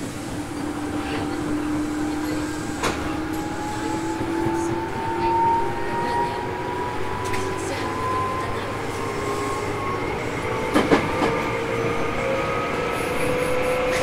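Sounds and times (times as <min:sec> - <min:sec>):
train motors whining: 0:00.0 - 0:14.0
wheels rumbling on track: 0:00.0 - 0:14.0.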